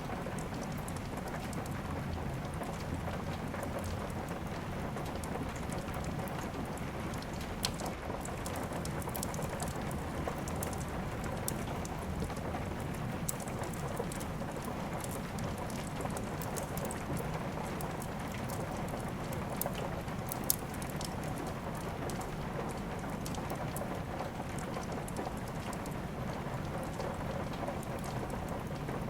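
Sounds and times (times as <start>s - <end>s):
steady rain: 0.0s - 29.0s
wood fire crackling: 0.1s - 29.0s.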